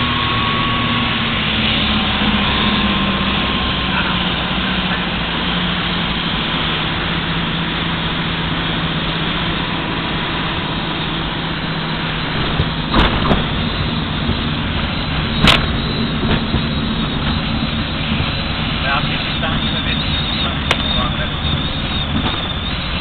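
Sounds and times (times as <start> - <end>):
aircraft engines droning: 0.0 - 23.0.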